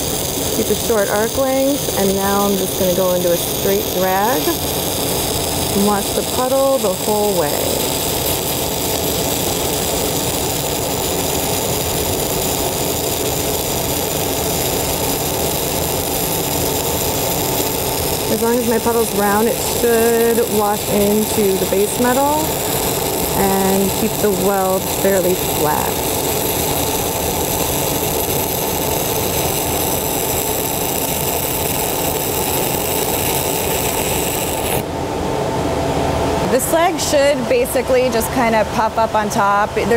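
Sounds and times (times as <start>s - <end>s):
welding arc crackle: 0.0s - 34.9s.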